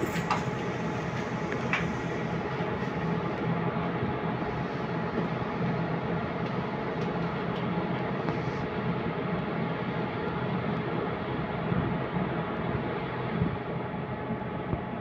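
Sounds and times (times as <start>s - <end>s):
faint drive whine: 0.0s - 15.0s.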